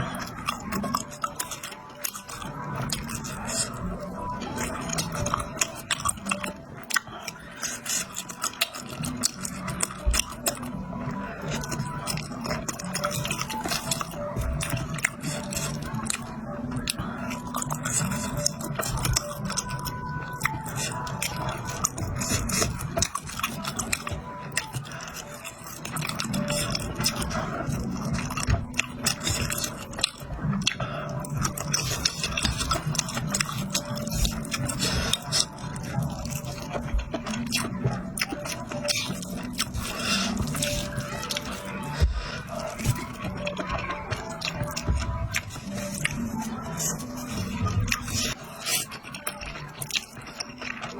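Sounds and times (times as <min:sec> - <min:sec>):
close chewing and biting: 0:00.0 - 0:50.9.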